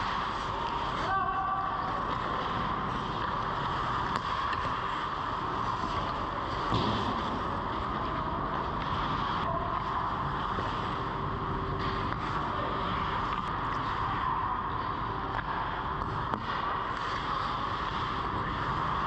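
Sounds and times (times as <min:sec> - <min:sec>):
skates and sticks on ice: 0:00.0 - 0:19.0.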